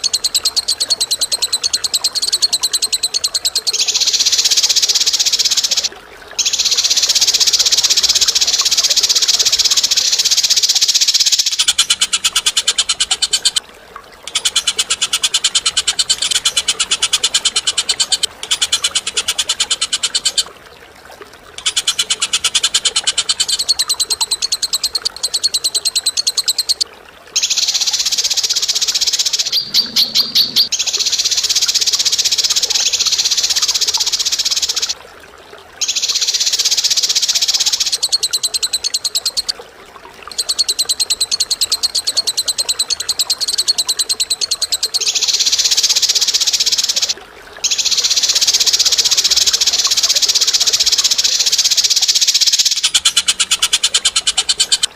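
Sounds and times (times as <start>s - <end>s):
bird chattering trills: 0.0s - 13.6s, 14.3s - 20.5s, 21.6s - 26.8s, 27.4s - 35.0s, 40.3s - 54.9s.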